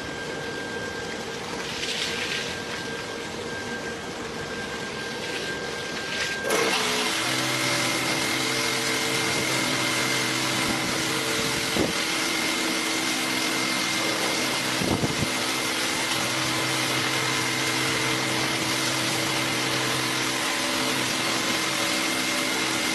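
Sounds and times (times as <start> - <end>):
washing machine running: 0.0 - 22.9.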